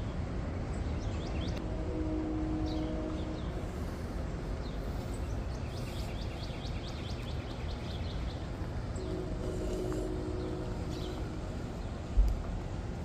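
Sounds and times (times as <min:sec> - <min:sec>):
low outdoor rumble: 0:00.0 - 0:13.0
low steady hum: 0:00.0 - 0:13.0
songbird chirping: 0:00.7 - 0:12.6.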